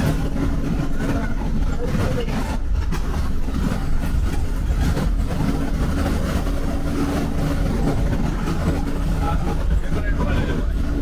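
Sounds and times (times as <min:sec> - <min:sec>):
bus engine drone: 0:00.0 - 0:11.0
constant low hum: 0:00.0 - 0:11.0
road rumble: 0:00.0 - 0:11.0.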